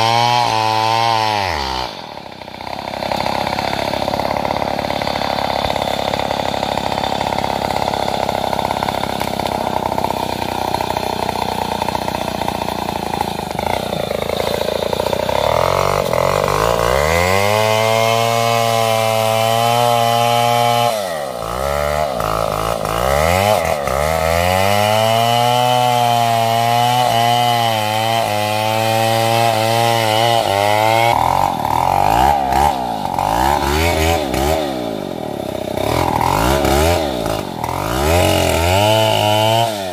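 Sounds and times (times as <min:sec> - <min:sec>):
chainsaw running loud: 0:00.0 - 0:39.9.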